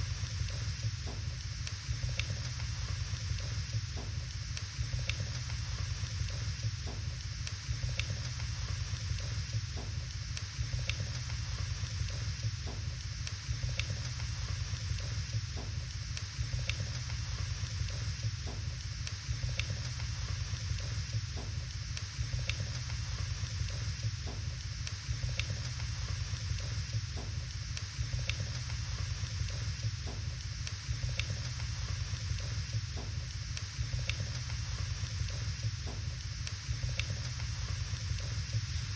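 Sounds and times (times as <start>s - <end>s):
wood fire hissing and crackling: 0.0s - 38.9s.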